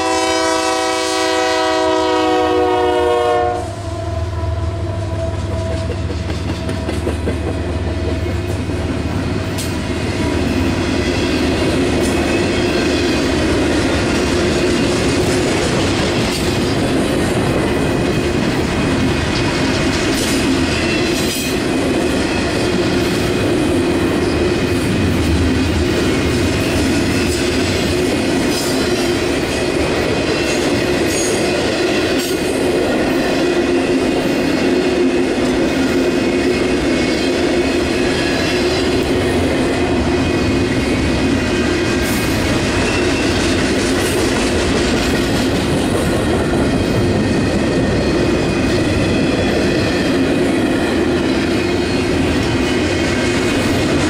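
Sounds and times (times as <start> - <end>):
freight train wheels rumbling on rail: 0.0 - 54.0
clickety-clack over rail joints: 5.2 - 54.0.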